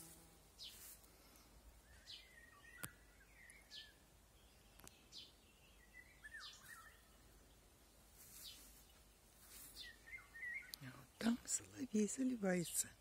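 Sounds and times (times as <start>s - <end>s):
songbirds singing: 0.5s - 13.0s.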